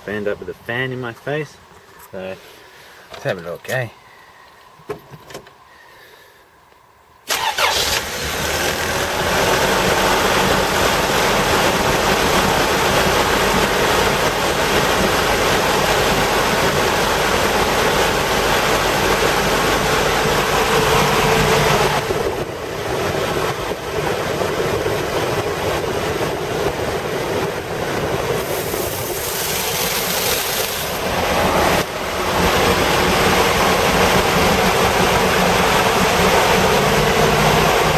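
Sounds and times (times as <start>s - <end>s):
engine starting and running: 7.2s - 37.9s.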